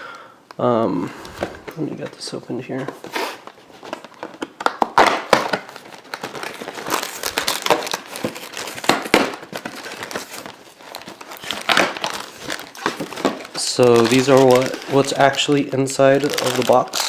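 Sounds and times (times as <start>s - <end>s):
packaging crinkling and tearing: 2.8s - 17.0s.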